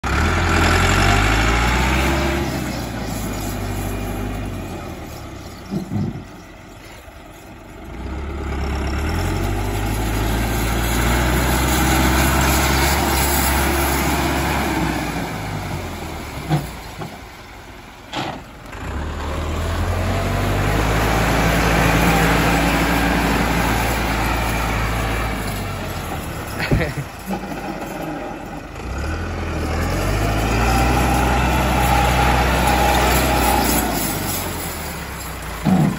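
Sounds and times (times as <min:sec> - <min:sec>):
tractor diesel engine revving: 0:00.0 - 0:35.9.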